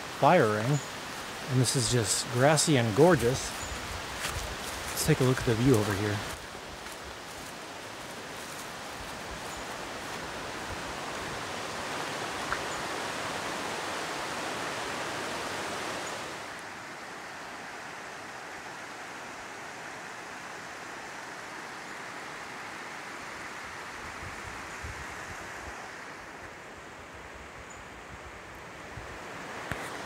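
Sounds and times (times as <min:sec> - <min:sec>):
river rushing: 0:00.0 - 0:30.0.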